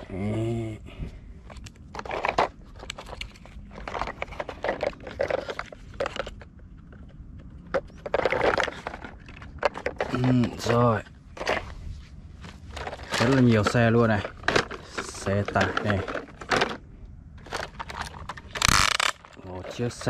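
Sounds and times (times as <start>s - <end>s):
plastic toy scraping and clicking: 1.5s - 11.6s, 12.7s - 16.8s, 17.4s - 20.0s.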